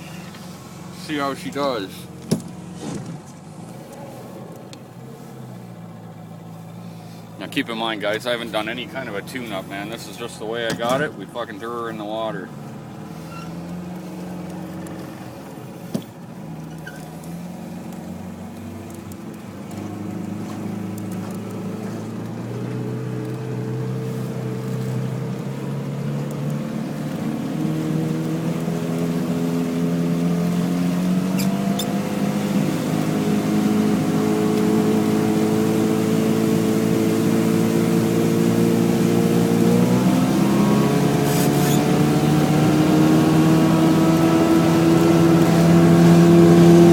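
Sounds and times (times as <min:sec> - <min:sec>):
outboard motor accelerating: 0:00.0 - 0:46.9.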